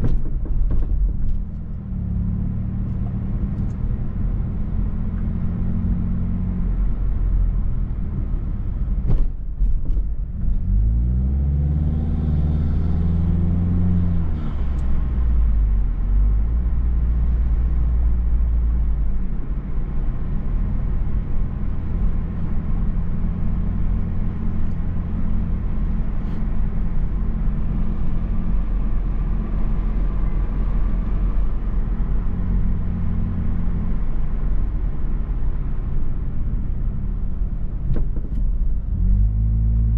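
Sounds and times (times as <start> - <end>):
car engine and tyres from cabin: 0.0 - 39.9.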